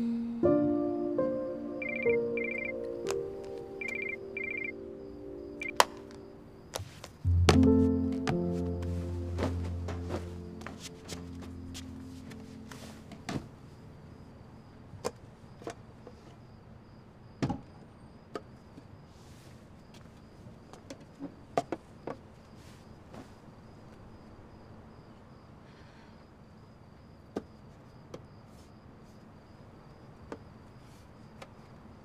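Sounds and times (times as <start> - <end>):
cricket chirping: 0.6 - 32.0.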